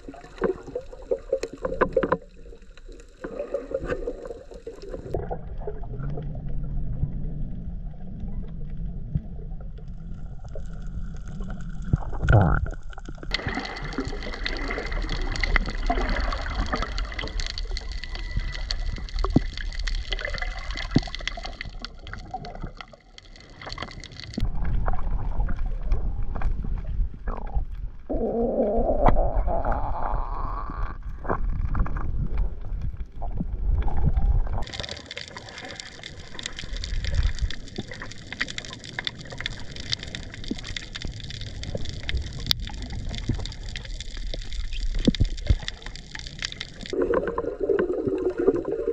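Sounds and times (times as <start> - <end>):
rising gurgle: 0.0 - 48.9
underwater clicks and crackles: 0.0 - 48.9
underwater water noise: 0.0 - 48.9.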